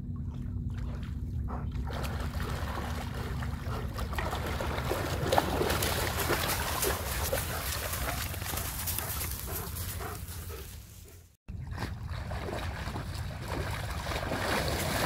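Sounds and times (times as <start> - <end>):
steady low rumble: 0.0 - 15.0
dogs splashing through water: 0.3 - 10.7, 11.6 - 15.0.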